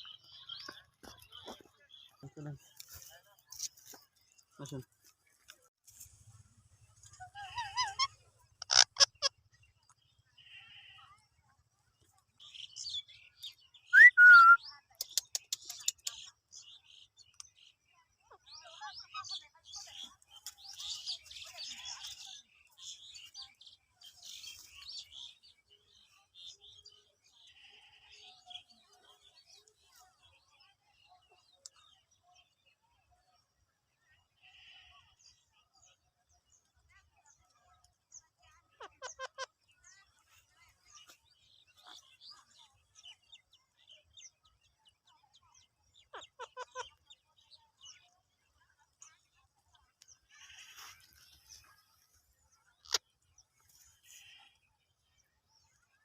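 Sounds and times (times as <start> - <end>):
birds chirping: 0.0 - 5.5, 6.8 - 33.1, 34.1 - 55.9.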